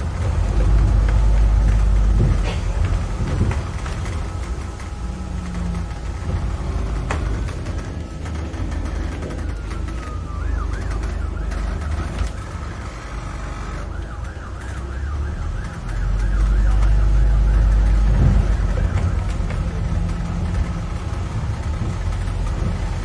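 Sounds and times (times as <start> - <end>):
bus engine rumble: 0.0 - 23.0
emergency siren wailing: 0.0 - 23.0.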